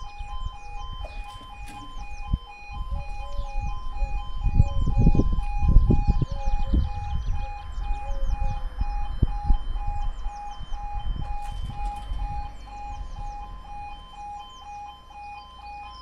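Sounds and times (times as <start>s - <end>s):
wind rumble on microphone: 0.0s - 14.8s
level crossing alarm two tones: 0.0s - 16.0s.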